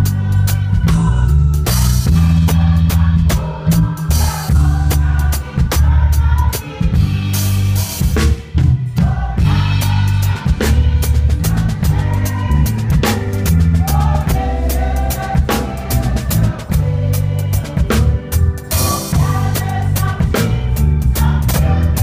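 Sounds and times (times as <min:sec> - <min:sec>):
deep held bass line: 0:00.0 - 0:22.0
drum kit hits: 0:00.0 - 0:22.0
gospel band playing: 0:00.0 - 0:22.0.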